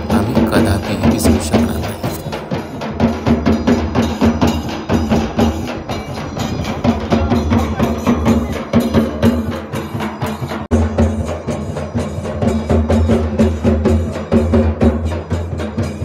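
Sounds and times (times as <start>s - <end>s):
drummers playing fast beat: 0.0s - 16.0s.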